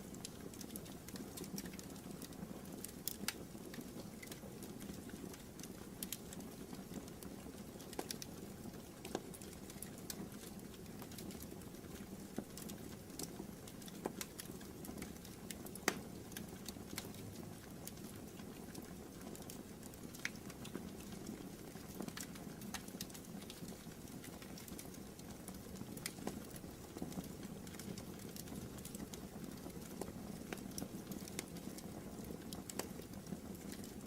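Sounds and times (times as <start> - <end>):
fire pops and snaps: 0.1 - 34.0.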